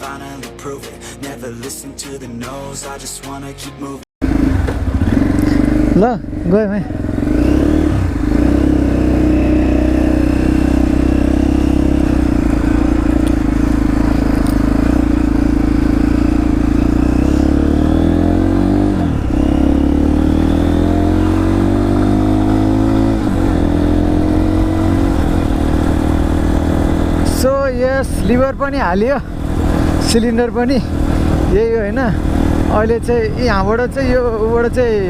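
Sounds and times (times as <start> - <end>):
motorcycle engine running: 4.2 - 35.0.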